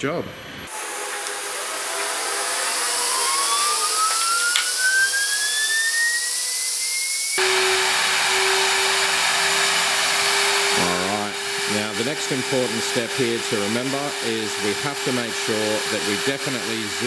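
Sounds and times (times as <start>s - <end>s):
dust extractor rushing: 0.7s - 17.0s
router spindle whine: 0.7s - 17.0s.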